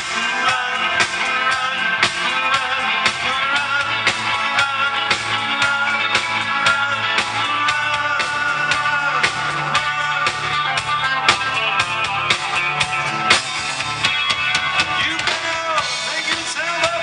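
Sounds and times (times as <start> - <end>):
bass: 0.0 - 17.0
drum kit steady beat: 0.0 - 17.0.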